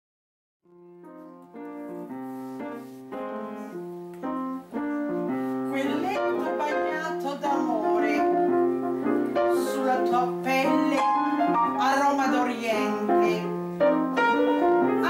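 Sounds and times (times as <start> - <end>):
rippling piano notes: 0.7 - 15.0
slow piano chords: 0.7 - 15.0.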